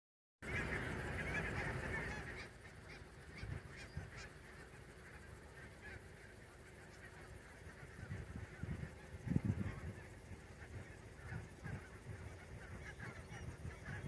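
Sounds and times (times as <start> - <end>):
geese calling: 0.4 - 14.0.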